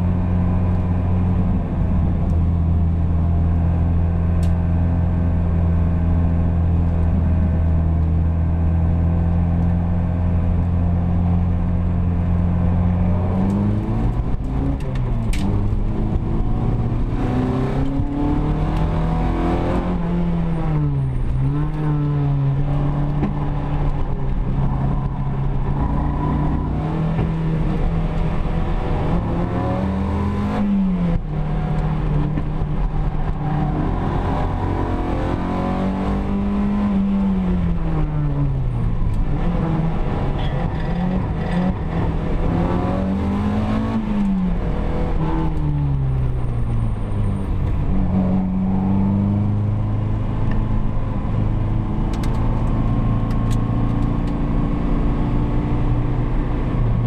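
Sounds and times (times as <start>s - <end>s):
car engine accelerating and shifting: 0.0s - 57.0s.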